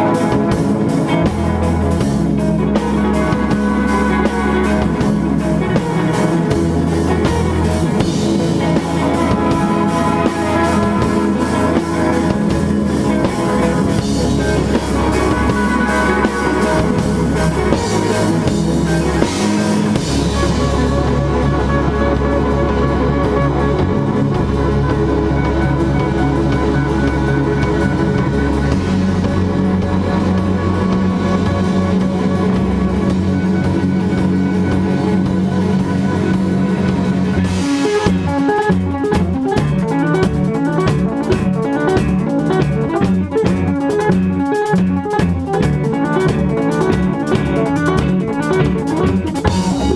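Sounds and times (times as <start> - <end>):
instrumental rock band: 0.0 - 49.9
ringing electric guitar notes: 0.0 - 49.9.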